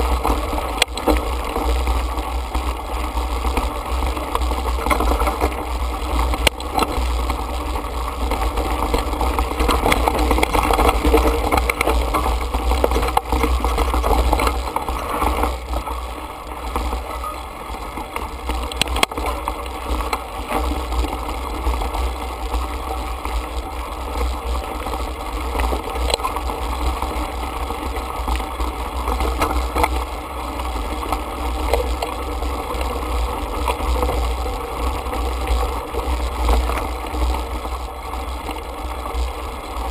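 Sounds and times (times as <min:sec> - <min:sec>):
bike rattles and knocks: 0:00.0 - 0:39.9
bike riding low rumble: 0:00.0 - 0:39.9.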